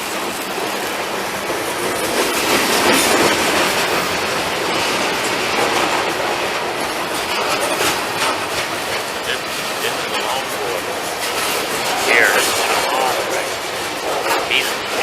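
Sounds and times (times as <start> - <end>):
freight train passing: 0.0 - 15.0
train wheels clickety-clack: 0.0 - 15.0.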